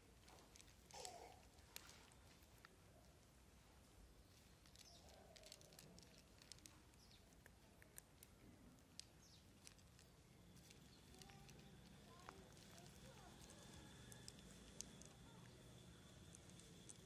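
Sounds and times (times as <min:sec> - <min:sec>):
cats crunching dry kibble: 0:00.0 - 0:17.0.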